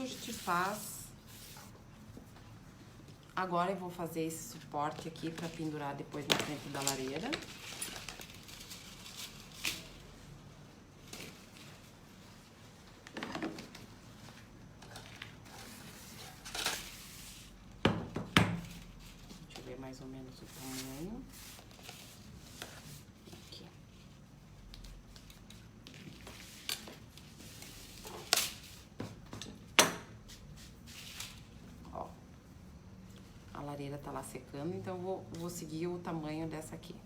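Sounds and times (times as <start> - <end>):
rustle of craft materials: 0.0 - 17.8, 18.6 - 33.7.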